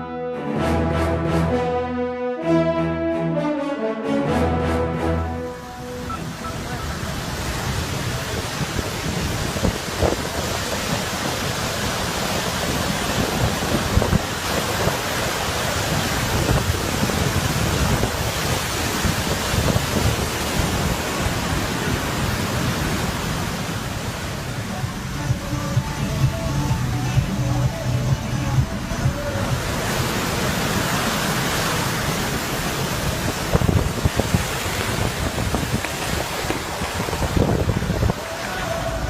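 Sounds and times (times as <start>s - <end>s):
waterfall rushing: 4.4s - 39.0s.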